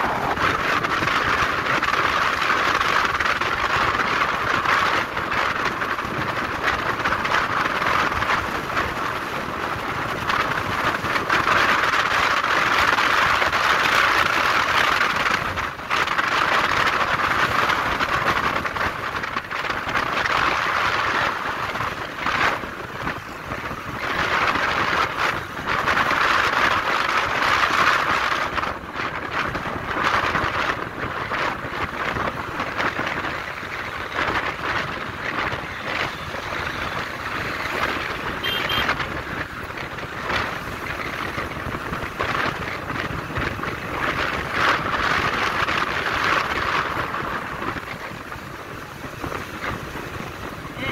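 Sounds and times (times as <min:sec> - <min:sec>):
motorbike road noise: 0:00.0 - 0:50.9
wind rushing: 0:00.0 - 0:50.9.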